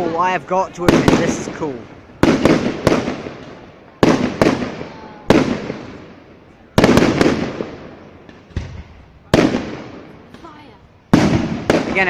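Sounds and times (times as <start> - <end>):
fireworks bursting with bangs: 0.0 - 12.0.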